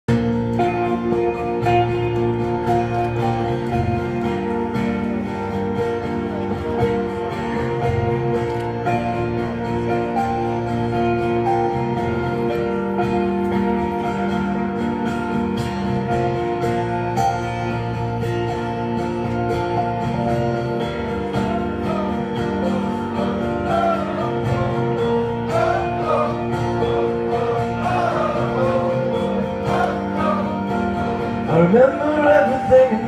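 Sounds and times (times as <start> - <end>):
acoustic guitars playing chords: 0.1 - 33.0.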